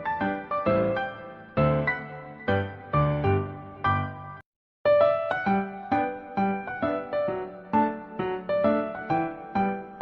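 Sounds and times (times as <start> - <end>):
gentle piano tune: 0.0 - 10.0.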